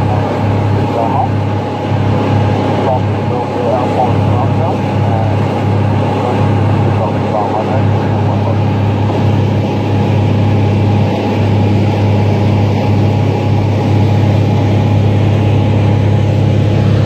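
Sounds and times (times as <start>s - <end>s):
loud engine drone: 0.0s - 17.0s.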